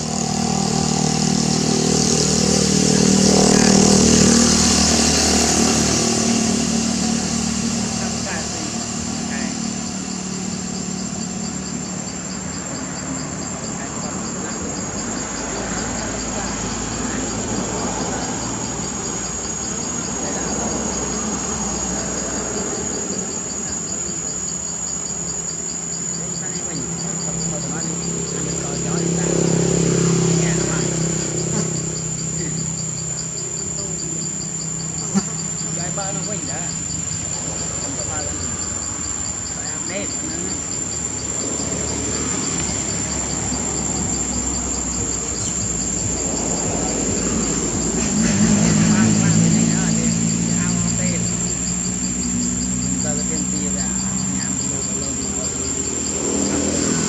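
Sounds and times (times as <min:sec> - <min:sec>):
insect chirping in quick pulses: 0:00.0 - 0:57.0
insect high-pitched trill: 0:00.0 - 0:57.0.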